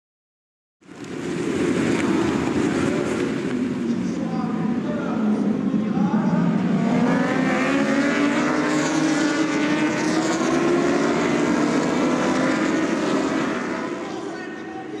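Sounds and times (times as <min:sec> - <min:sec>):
racing motorcycles revving: 0:00.9 - 0:14.8.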